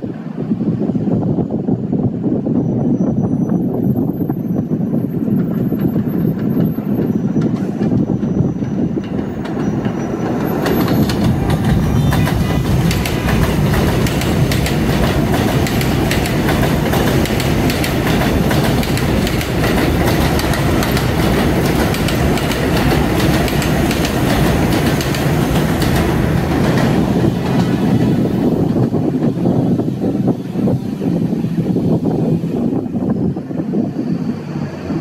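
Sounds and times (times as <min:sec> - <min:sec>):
subway train wheels clacking: 0:00.0 - 0:35.0
train rushing noise: 0:00.0 - 0:35.0.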